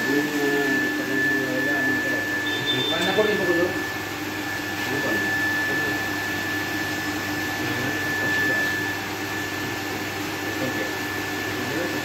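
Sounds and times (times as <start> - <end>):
constant high whine: 0.0 - 12.0
electric pump humming: 0.0 - 12.0.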